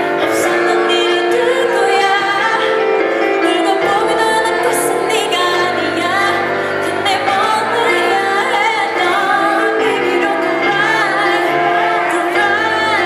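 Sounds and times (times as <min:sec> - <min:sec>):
backing music: 0:00.0 - 0:13.0
woman singing: 0:00.0 - 0:13.0.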